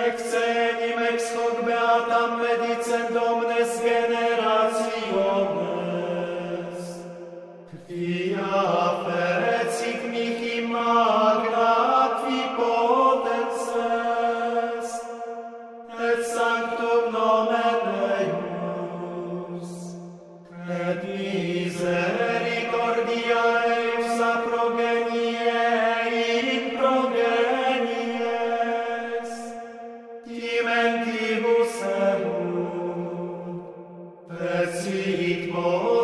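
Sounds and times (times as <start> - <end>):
voices singing chant: 0.0 - 36.0.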